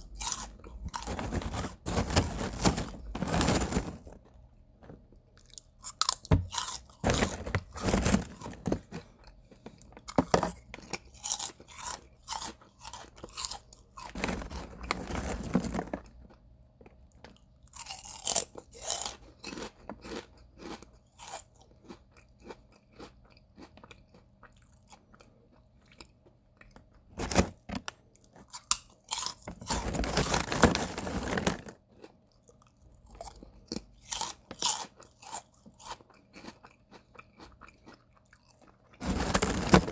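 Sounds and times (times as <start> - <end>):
person crunching potato chips: 0.0 - 4.4, 5.4 - 25.3, 26.0 - 39.9.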